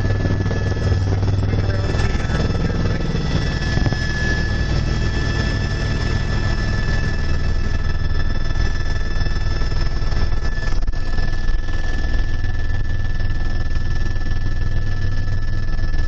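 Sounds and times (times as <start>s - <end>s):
small aircraft engine drone: 0.0s - 16.0s.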